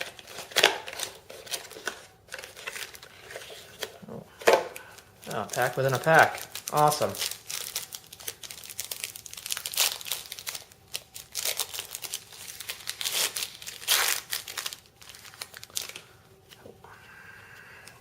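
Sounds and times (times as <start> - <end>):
wrapper crinkling: 0.0 - 3.9, 4.9 - 16.1.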